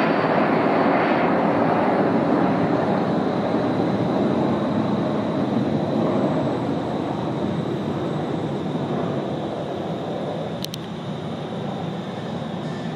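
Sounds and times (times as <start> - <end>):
jet engines rumbling with whine: 0.0 - 12.9.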